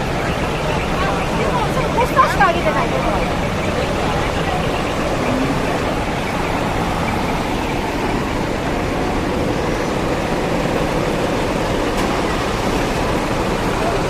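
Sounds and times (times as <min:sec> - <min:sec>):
diesel truck engines running: 0:00.0 - 0:14.0.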